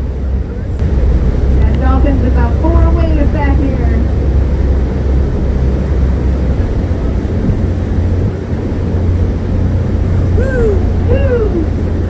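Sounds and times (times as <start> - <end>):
boat engine droning: 0.0 - 12.0
wind and water rushing: 0.0 - 12.0.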